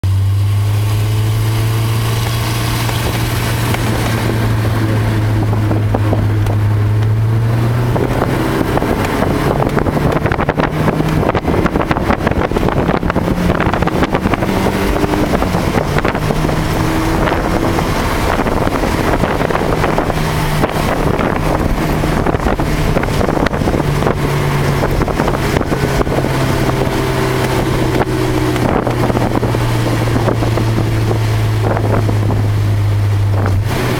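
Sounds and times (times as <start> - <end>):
car engine running: 0.0 - 33.9
tyres on wet road: 0.0 - 33.9
wind rushing: 0.8 - 33.9.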